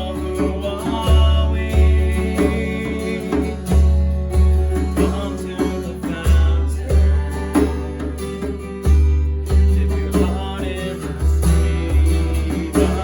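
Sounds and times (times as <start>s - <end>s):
bass beat: 0.0s - 13.0s
guitar: 0.0s - 13.0s
person singing: 0.0s - 13.0s.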